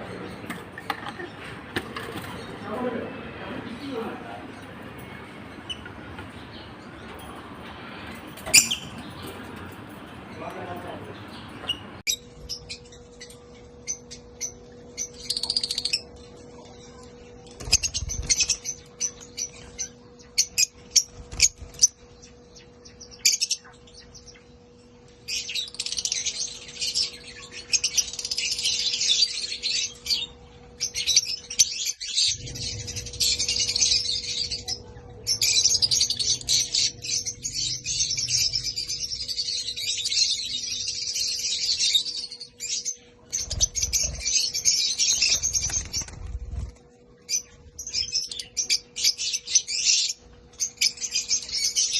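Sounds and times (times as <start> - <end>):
lovebirds chirping: 0.0 - 51.9.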